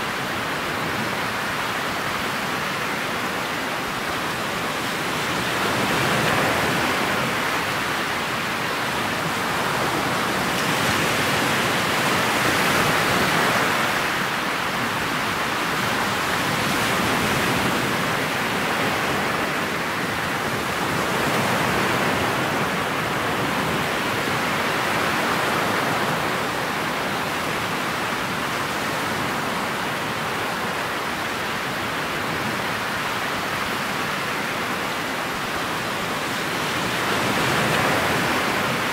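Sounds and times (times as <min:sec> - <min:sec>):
water rushing along boat hull: 0:00.0 - 0:38.9
wind: 0:00.0 - 0:38.9.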